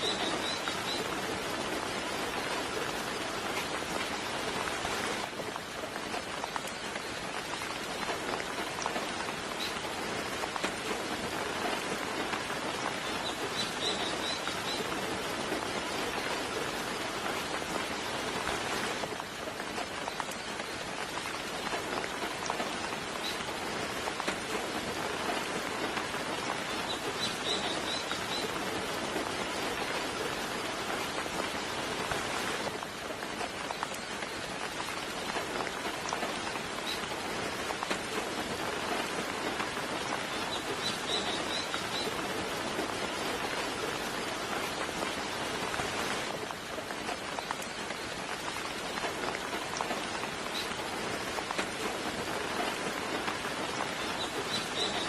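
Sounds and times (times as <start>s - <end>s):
soft rain pattering: 0.0s - 55.0s.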